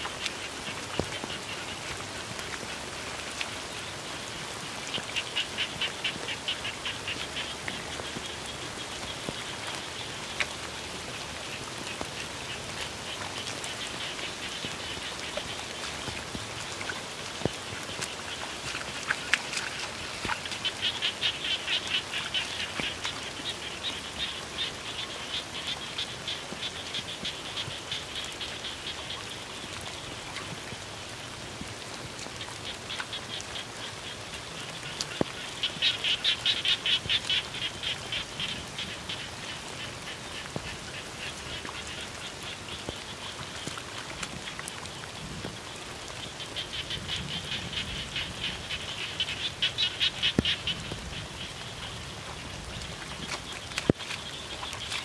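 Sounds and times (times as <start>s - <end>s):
frog chorus trilling: 3.6s - 30.1s, 32.6s - 55.0s.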